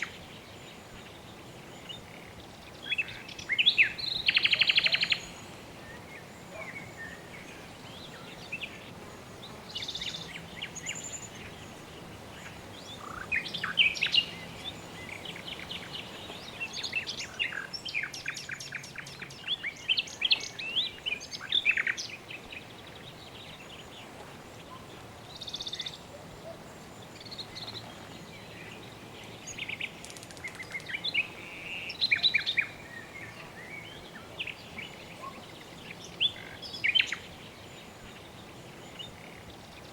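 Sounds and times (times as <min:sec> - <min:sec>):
birds chirping and trilling: 0:00.0 - 0:39.9
faint background hiss: 0:00.0 - 0:39.9.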